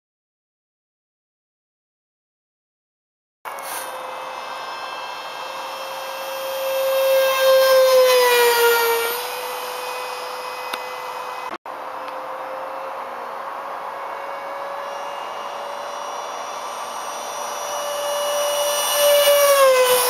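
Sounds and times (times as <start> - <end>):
model jet fan whining past: 3.5 - 20.0.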